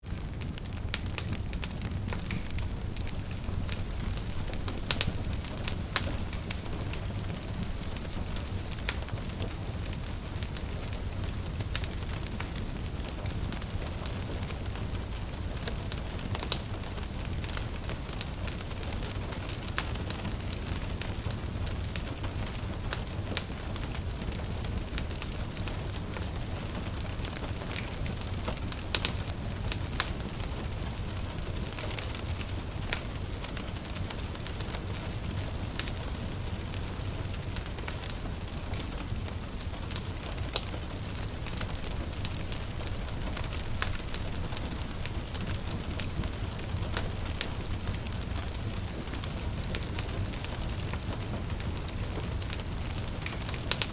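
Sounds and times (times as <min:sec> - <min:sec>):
gentle rain: 0:00.0 - 0:53.9
wood fire crackling: 0:00.0 - 0:53.9.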